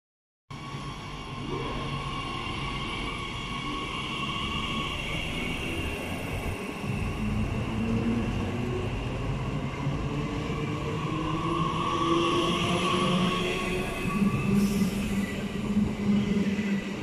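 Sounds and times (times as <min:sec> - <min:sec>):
electric train whine: 0:00.6 - 0:17.0.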